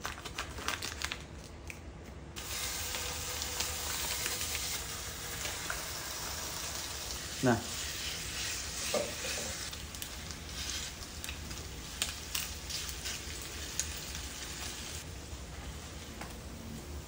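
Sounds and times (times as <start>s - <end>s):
meat sizzling in a frying pan: 2.4s - 16.6s.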